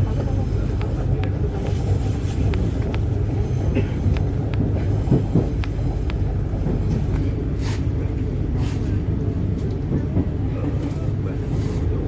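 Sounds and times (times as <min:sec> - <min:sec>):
train carriage low rumble: 0:00.0 - 0:12.0.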